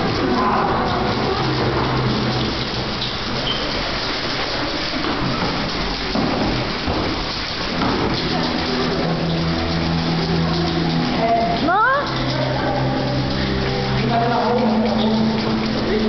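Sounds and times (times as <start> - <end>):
spray paint cans hissing: 0.0 - 16.0.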